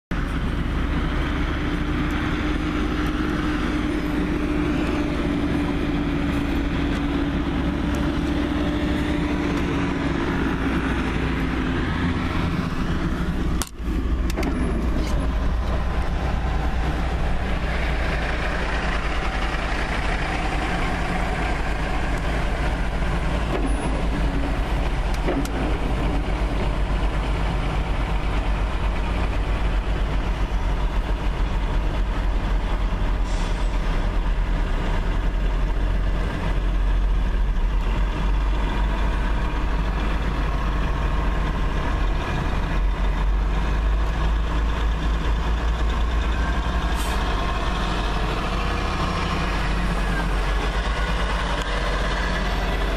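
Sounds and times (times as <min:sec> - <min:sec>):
vehicle engine rumbling: 0:00.1 - 0:52.9.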